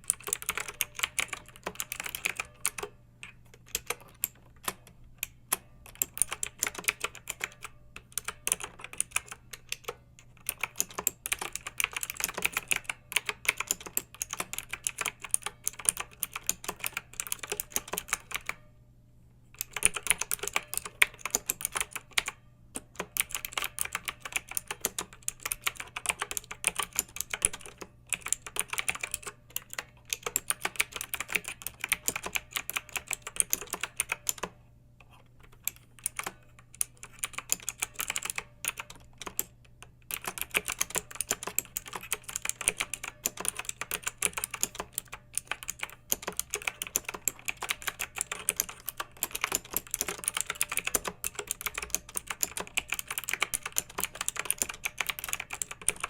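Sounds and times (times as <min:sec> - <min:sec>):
mechanical keyboard typing: 0:00.0 - 0:18.7, 0:19.6 - 0:56.0.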